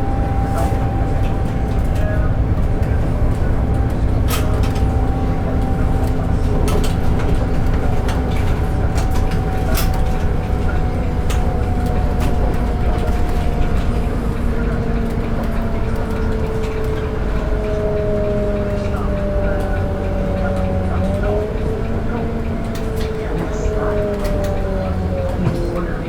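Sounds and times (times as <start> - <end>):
diesel bus engine drone: 0.0 - 26.0
road rumble: 0.0 - 26.0
clicks and rattles of bus fittings: 0.1 - 26.0.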